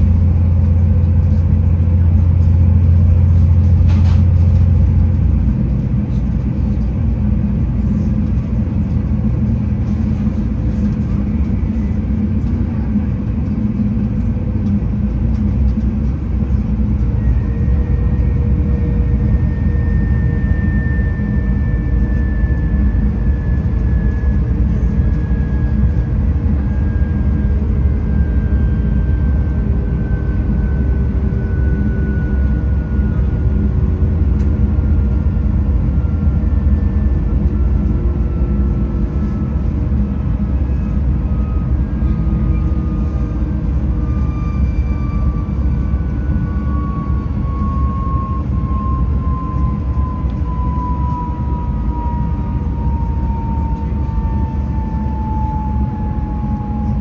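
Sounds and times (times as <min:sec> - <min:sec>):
faint whine falling in pitch: 0:00.0 - 0:57.0
train low rumble: 0:00.0 - 0:57.0.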